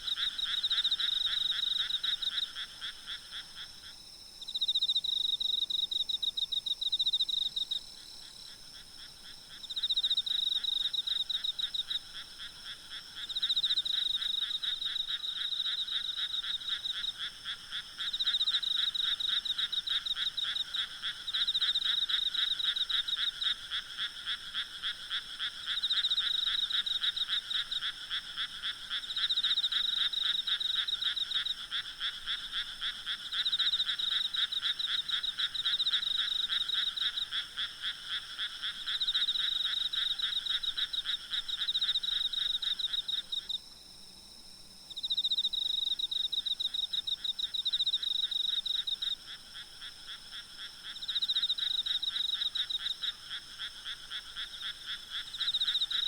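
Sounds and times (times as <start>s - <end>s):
frogs calling in rapid trills: 0.0s - 3.9s, 4.5s - 43.6s, 44.9s - 56.0s
insects calling: 0.0s - 43.7s, 44.9s - 56.0s.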